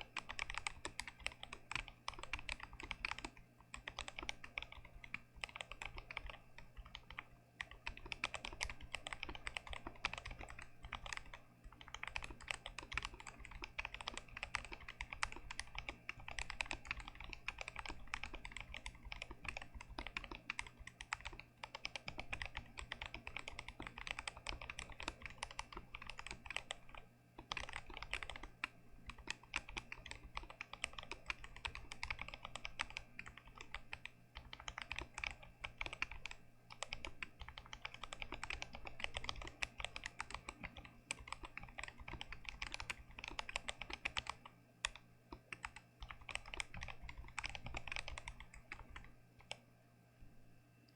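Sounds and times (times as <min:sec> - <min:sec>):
mechanical keyboard typing: 0:00.0 - 0:49.6.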